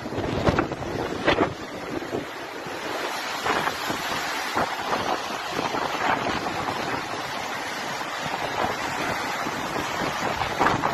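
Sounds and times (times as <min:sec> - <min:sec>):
rushing floodwater and surf: 0:00.0 - 0:10.9
wind gusting on microphone: 0:00.0 - 0:10.9.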